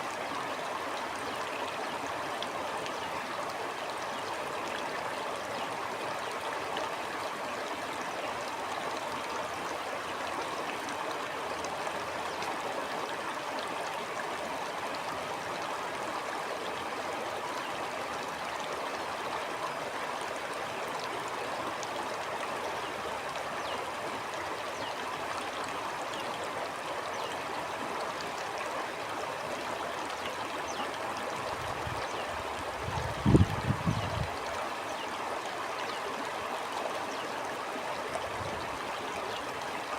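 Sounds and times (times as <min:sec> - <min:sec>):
shallow stream gurgling: 0:00.0 - 0:39.9.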